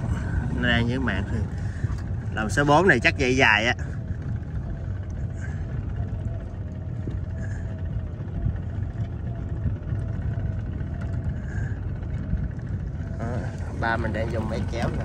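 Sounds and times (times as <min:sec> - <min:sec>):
winch motor rumble with whine: 0:00.0 - 0:15.0.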